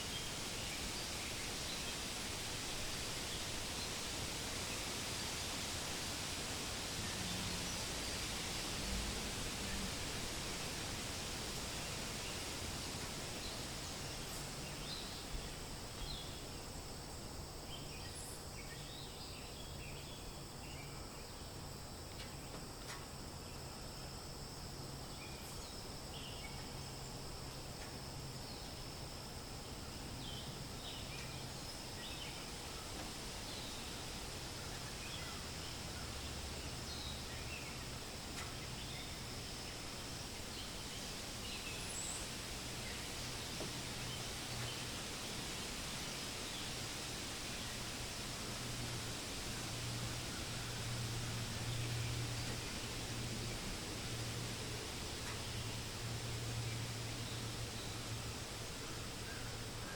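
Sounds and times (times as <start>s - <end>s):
soft hiss: 0.0s - 59.9s.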